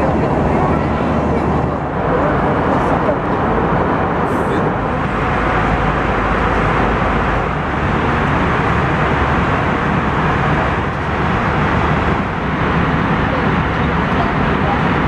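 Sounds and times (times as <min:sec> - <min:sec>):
airplane cabin noise: 0:00.0 - 0:15.0.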